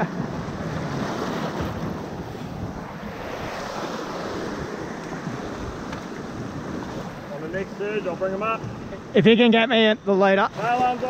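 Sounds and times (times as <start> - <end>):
surf washing over rocky shore: 0.0 - 11.0.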